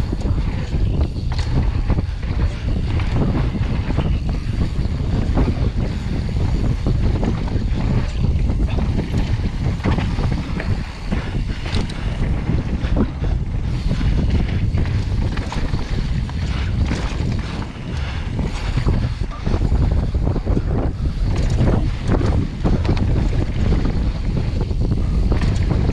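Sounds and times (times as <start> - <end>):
bike rattling clicks and knocks: 0.0 - 25.9
tyres rumbling on dirt: 0.0 - 25.9
wind buffeting microphone: 0.0 - 25.9.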